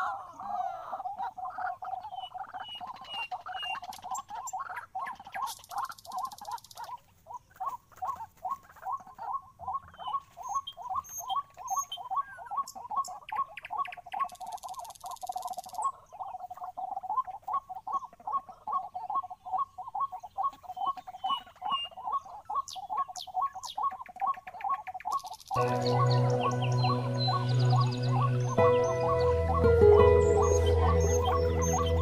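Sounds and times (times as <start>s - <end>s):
bird croaking calls: 0.0s - 32.0s.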